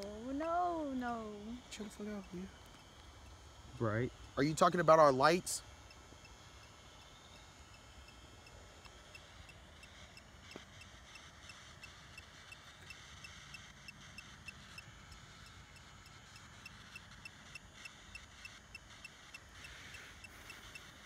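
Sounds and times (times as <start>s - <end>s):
faint evenly spaced ticking: 0.0s - 21.0s.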